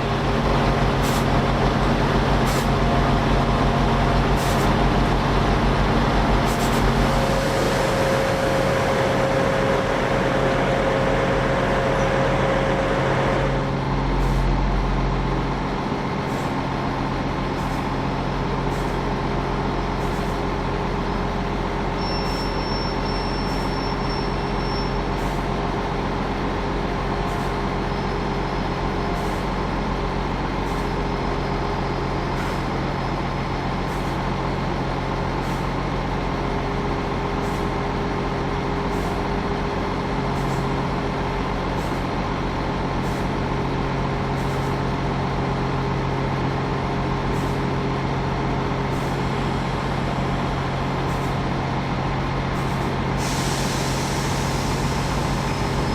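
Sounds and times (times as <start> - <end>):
diesel train engine idling: 0.0 - 55.9.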